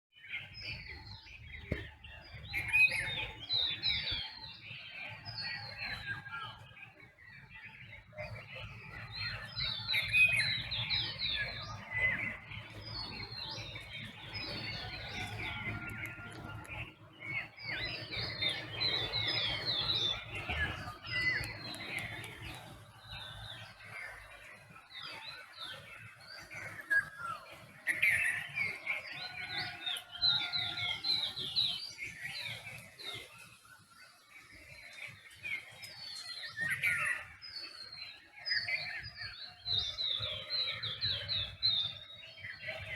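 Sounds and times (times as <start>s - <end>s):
songbirds chirping and trilling: 0.1s - 42.9s.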